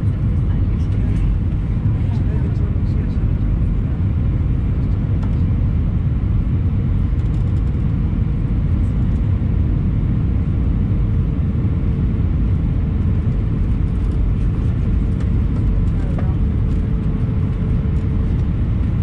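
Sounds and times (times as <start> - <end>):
vehicle interior rumble: 0.0 - 19.0.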